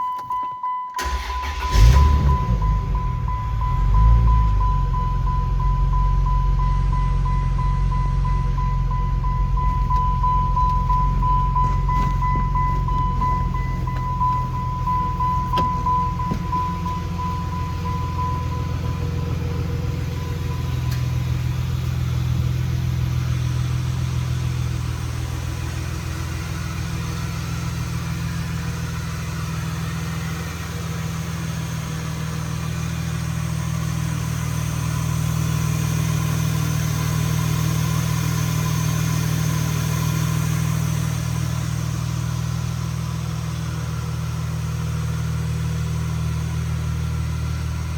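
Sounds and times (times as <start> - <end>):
car engine idling: 1.0 - 47.9.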